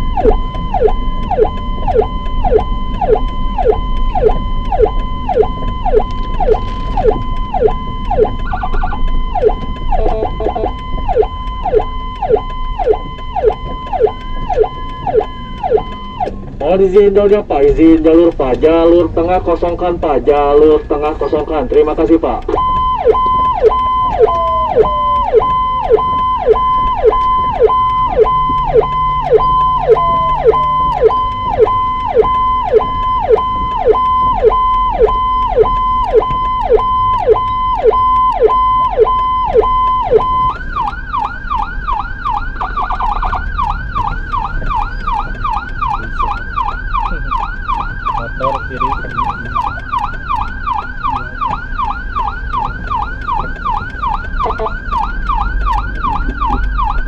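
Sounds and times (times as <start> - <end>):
ambulance siren: 0.0 - 57.0.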